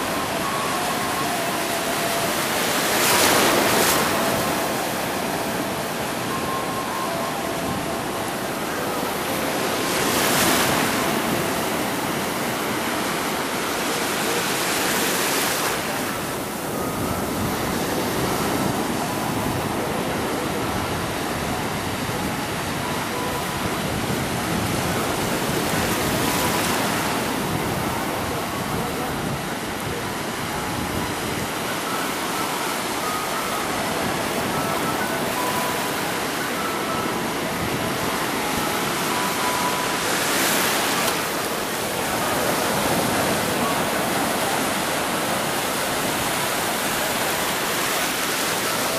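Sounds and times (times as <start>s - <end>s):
ocean surf breaking: 0.0s - 48.9s.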